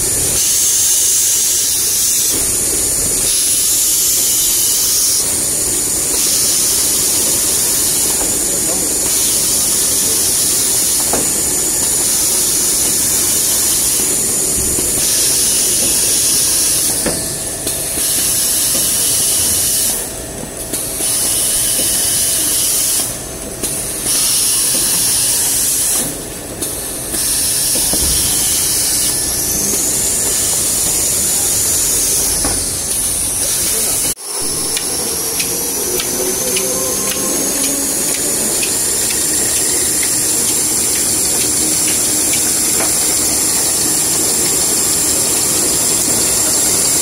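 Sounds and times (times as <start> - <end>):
machinery hissing: 0.0 - 47.0.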